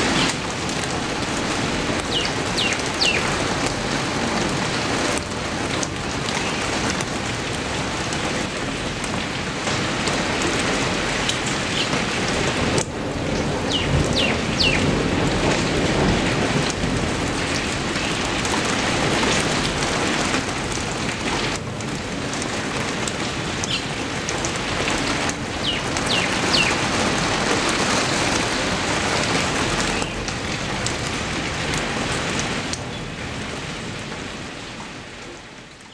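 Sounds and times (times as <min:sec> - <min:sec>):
heavy rain on foliage: 0:00.0 - 0:35.9.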